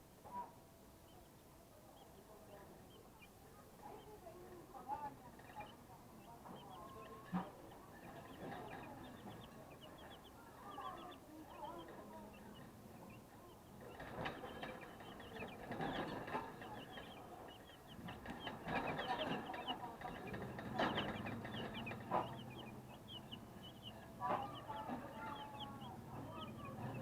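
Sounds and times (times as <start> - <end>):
chicks peeping: 0.2 - 27.0.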